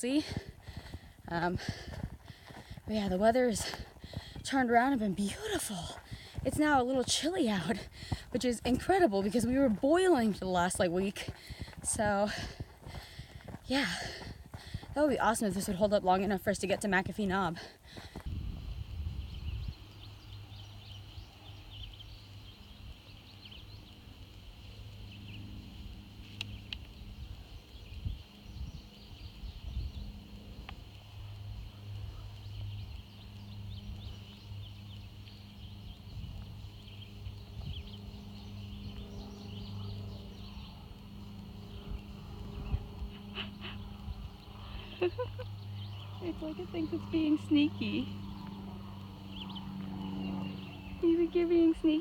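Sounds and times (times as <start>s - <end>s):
low steady rumble: 0.0s - 52.0s.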